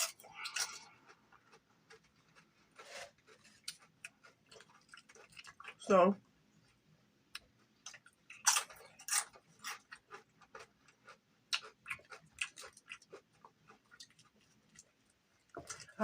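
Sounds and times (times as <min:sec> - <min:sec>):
chewing crispy food: 0:00.0 - 0:05.9, 0:06.7 - 0:16.0.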